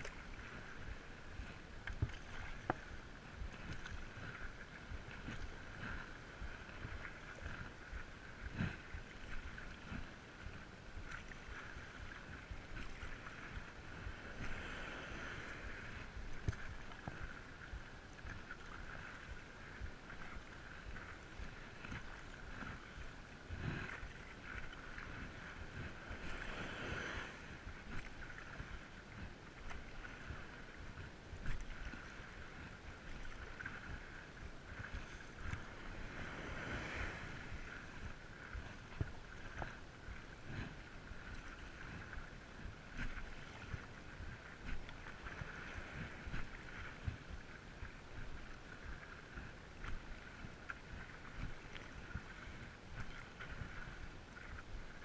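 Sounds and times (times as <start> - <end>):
water splashing from paddling: 0.0 - 55.0.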